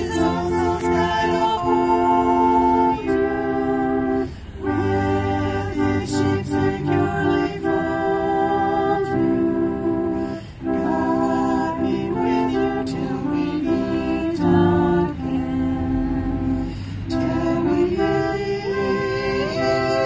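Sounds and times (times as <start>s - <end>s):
music of held chords: 0.0s - 20.0s.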